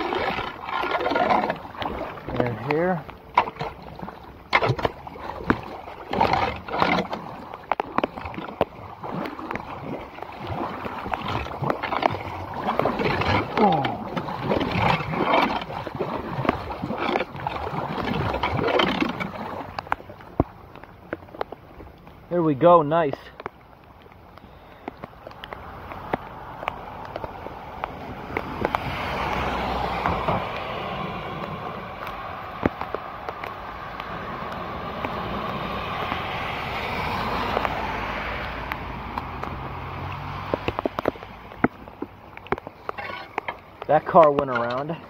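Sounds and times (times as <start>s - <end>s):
floodwater rushing down storm drain: 0.0s - 45.0s
water splashing and sloshing: 0.0s - 45.0s.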